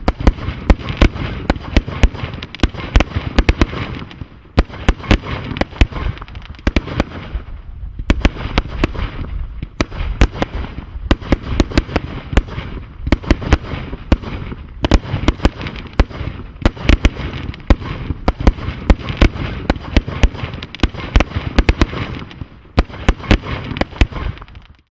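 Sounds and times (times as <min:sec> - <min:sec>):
firework cake bangs: 0:00.0 - 0:24.8.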